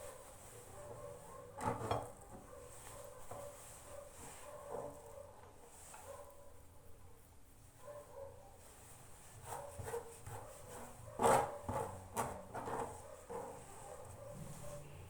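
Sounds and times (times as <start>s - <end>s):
dog barking: 0.0s - 7.2s, 7.8s - 8.6s, 9.5s - 11.9s, 12.8s - 15.0s.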